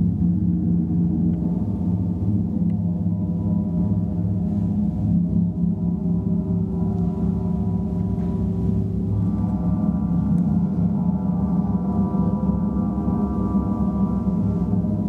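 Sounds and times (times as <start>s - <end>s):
gongs resonating: 0.0s - 15.0s.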